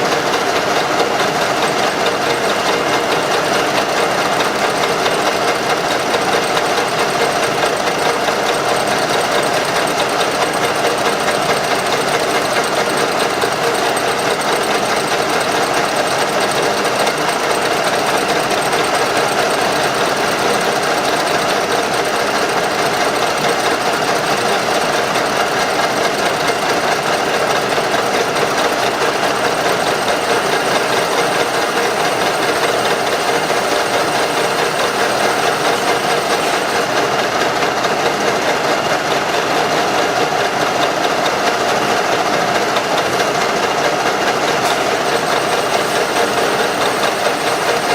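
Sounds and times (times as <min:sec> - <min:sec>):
machine clattering: 0:00.0 - 0:47.9.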